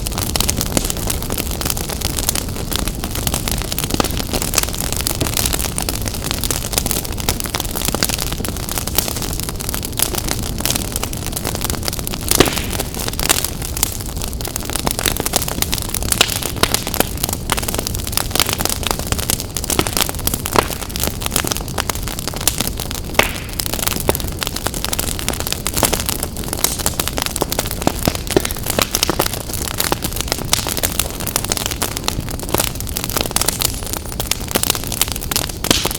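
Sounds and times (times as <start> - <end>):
fireplace fire crackling and popping: 0.0 - 35.9.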